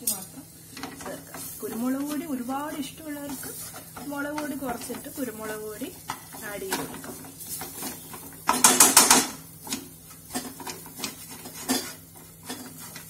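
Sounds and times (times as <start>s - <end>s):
spatula scraping a frying pan: 0.7s - 13.0s.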